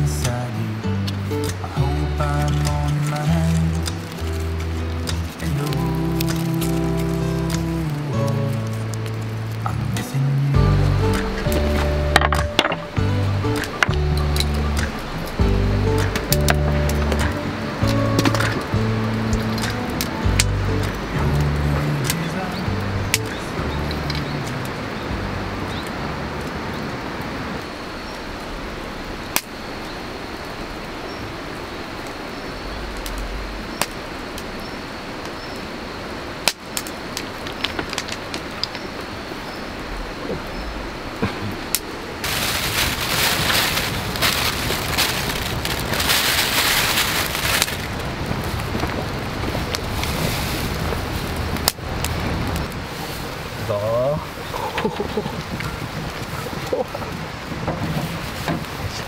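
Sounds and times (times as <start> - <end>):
raindrops ticking: 0.0 - 59.0
steady hiss of rain: 0.0 - 59.0.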